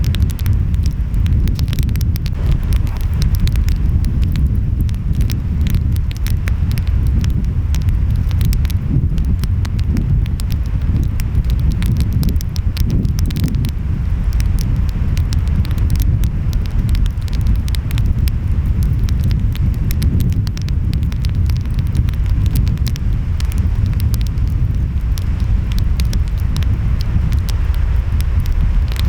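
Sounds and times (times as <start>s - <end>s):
wind: 0.0s - 29.0s
wood fire crackling and popping: 0.0s - 29.0s.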